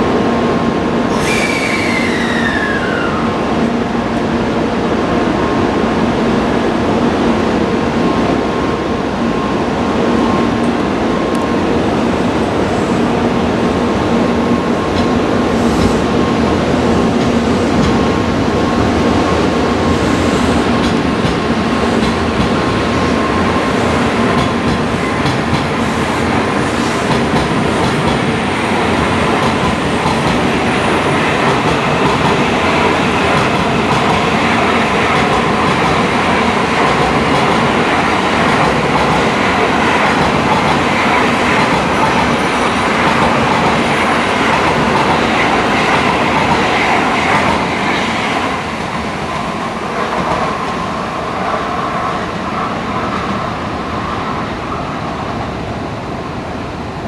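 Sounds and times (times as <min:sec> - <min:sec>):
train rushing rumble: 0:00.0 - 0:57.0.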